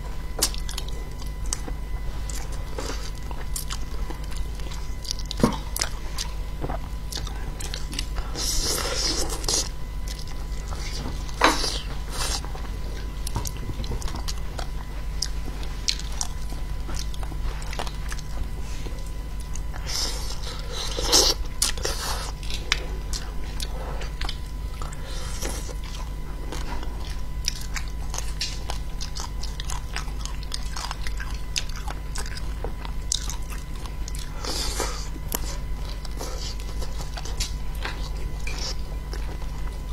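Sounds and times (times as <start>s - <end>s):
close biting and chewing: 0.3s - 39.9s.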